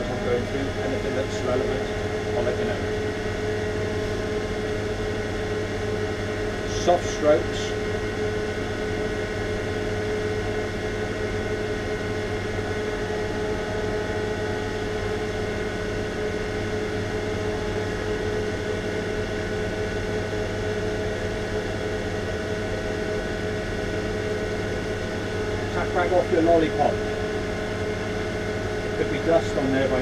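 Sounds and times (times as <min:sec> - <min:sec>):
electric fan humming: 0:00.0 - 0:30.0.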